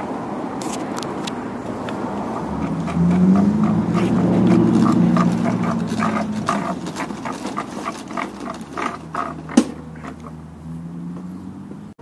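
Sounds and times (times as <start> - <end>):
push mower rattling over asphalt: 0.6 - 10.4.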